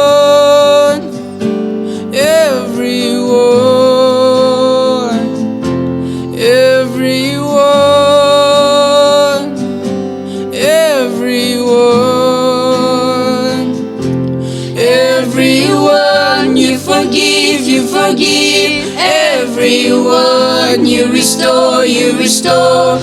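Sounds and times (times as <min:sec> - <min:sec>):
person singing: 0:00.0 - 0:01.2, 0:02.0 - 0:05.4, 0:06.4 - 0:09.6, 0:10.5 - 0:13.9, 0:14.6 - 0:23.0
acoustic guitar: 0:00.0 - 0:23.0.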